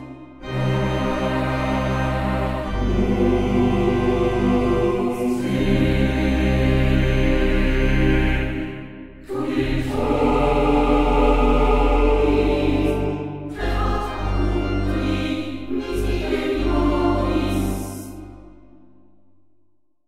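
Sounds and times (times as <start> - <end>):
background music with choir singing: 0.0 - 19.3.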